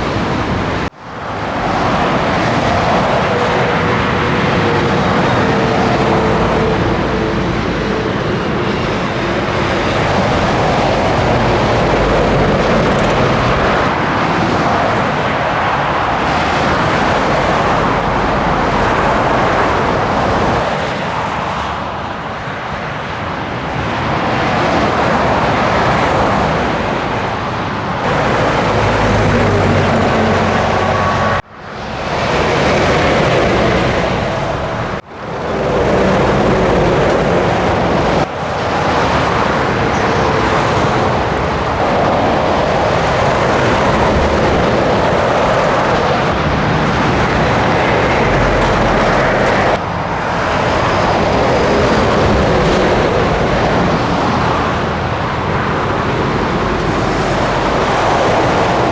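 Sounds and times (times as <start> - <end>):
tyre and road noise: 0.0 - 58.9
truck engine running: 2.8 - 22.5, 26.8 - 35.0, 38.8 - 58.9.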